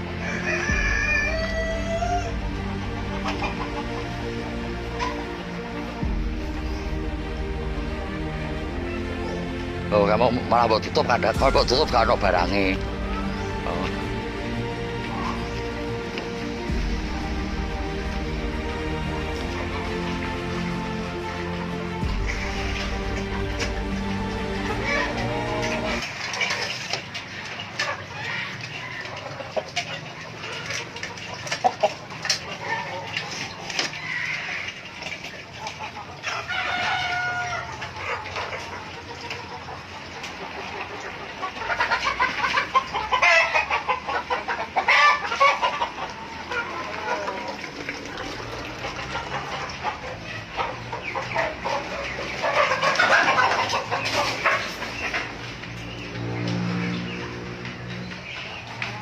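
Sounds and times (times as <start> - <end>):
background music: 0.0 - 28.5, 31.2 - 59.0
chickens clucking: 0.0 - 59.0.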